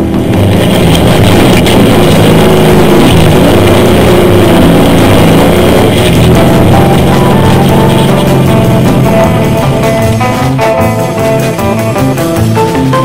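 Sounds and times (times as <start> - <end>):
buggy engine running under load: 0.0 - 13.0.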